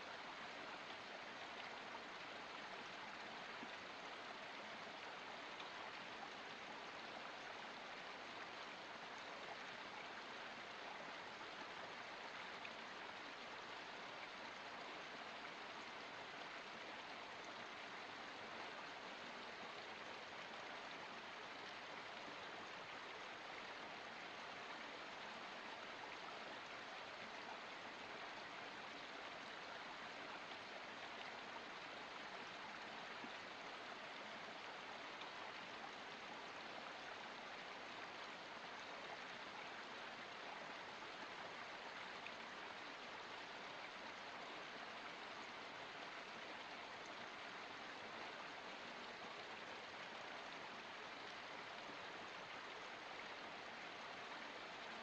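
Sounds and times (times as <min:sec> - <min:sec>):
stream water rushing and splashing: 0:00.0 - 0:55.0.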